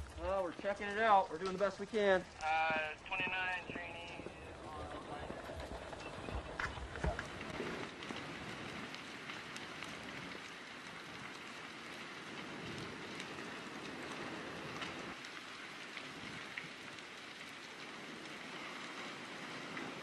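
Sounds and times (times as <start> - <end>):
burning wood crackling: 0.0 - 20.0
rush of flames: 0.0 - 20.0
sharp pops from fire: 0.0 - 20.0.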